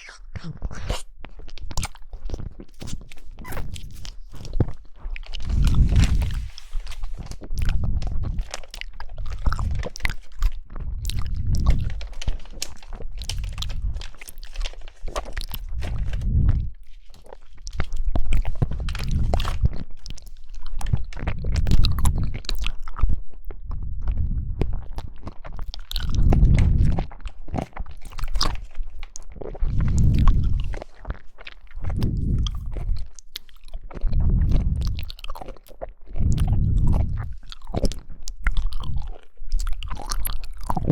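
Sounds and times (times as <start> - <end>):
jelly being chewed: 0.0 - 40.9.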